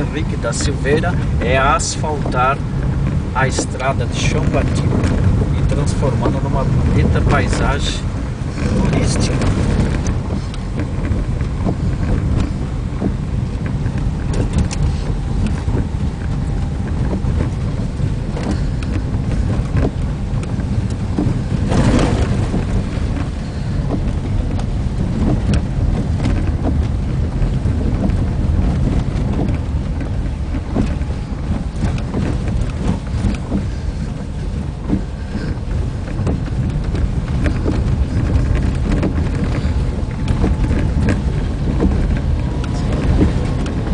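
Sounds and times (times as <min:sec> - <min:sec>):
vehicle driving on dirt road: 0:00.0 - 0:43.9.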